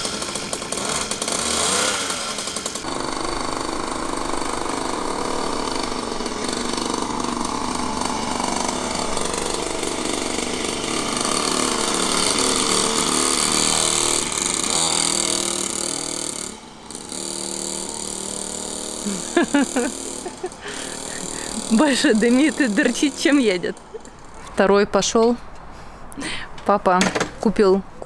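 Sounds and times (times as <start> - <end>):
two-stroke dirt bike engine puttering: 0.0 - 24.4.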